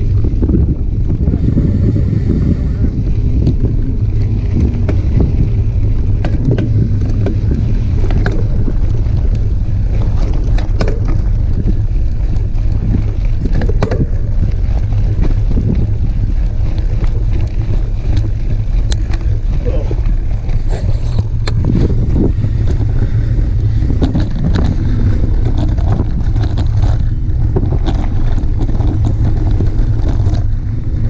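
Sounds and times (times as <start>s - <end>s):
wind rumble on microphone: 0.0s - 31.0s
bike clicks and rattles: 3.4s - 19.5s, 20.6s - 31.0s.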